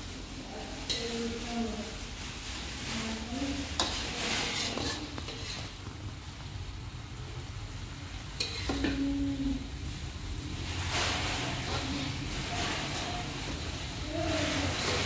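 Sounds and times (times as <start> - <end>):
metal spatula scraping a wok: 0.6 - 6.0, 8.2 - 15.0.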